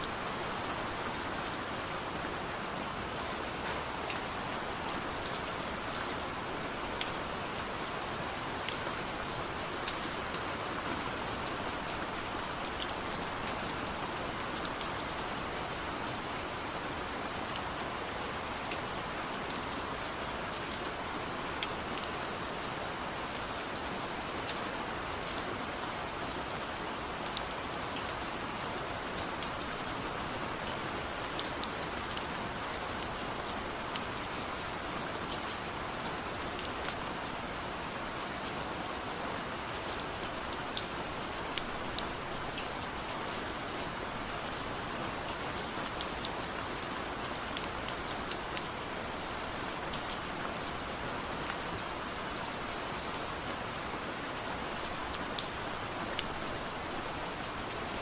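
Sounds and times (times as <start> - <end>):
raindrops ticking on a surface: 0.0 - 58.0
steady rain: 0.0 - 58.0.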